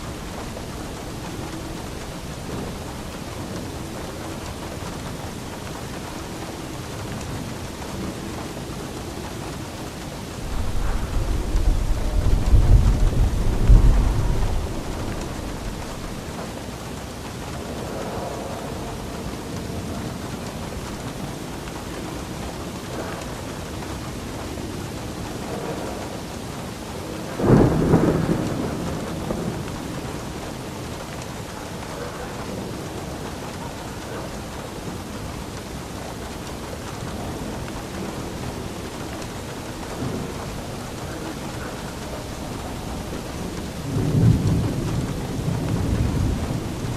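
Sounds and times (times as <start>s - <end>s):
deep rumble of thunder: 0.0s - 46.9s
steady rain falling: 0.0s - 46.9s.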